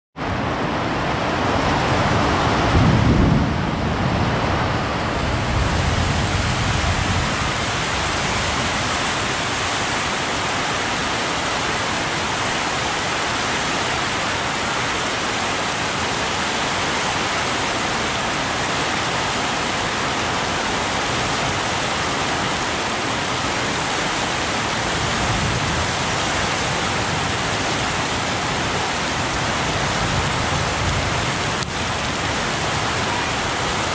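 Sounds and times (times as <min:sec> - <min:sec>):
steady rain hiss: 0:00.2 - 0:33.9.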